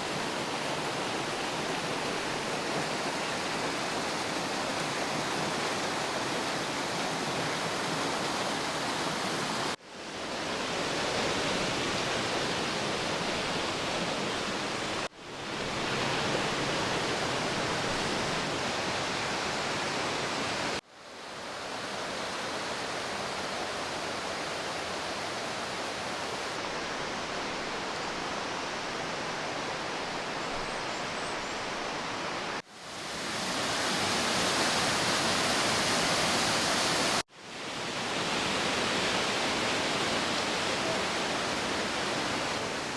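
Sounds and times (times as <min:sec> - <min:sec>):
rush of running water: 0:00.0 - 0:42.9.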